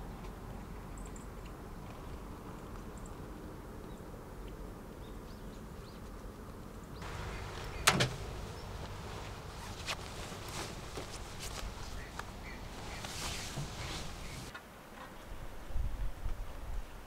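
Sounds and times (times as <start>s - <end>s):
background hiss: 2.3s - 17.0s.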